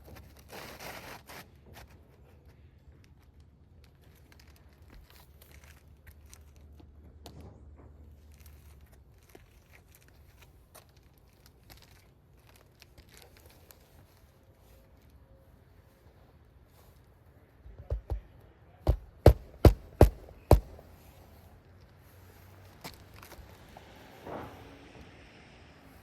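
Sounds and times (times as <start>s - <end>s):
shingle crinkling and scraping: 0.0s - 24.6s.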